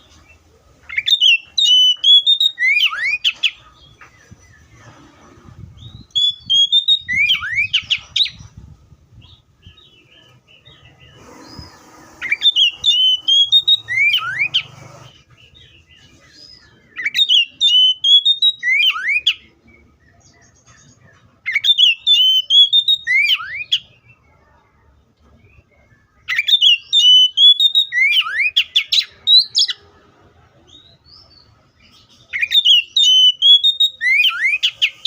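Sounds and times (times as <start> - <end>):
bird singing: 0.0 - 35.0.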